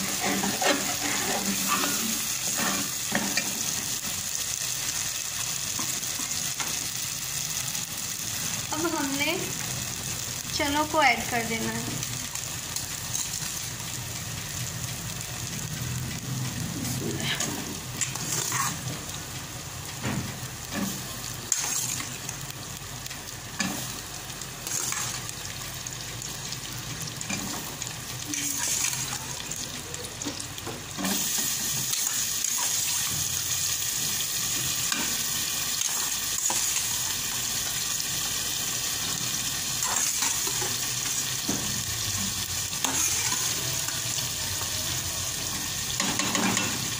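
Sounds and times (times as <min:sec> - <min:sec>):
food sizzling in pot: 0:00.0 - 0:46.9.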